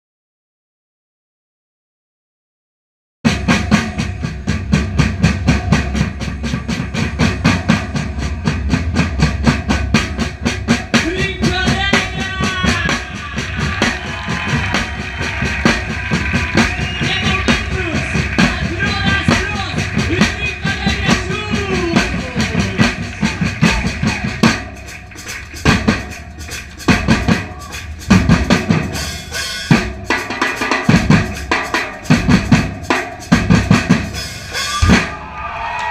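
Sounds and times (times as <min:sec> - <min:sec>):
drum-led percussion music: 0:03.3 - 0:35.9.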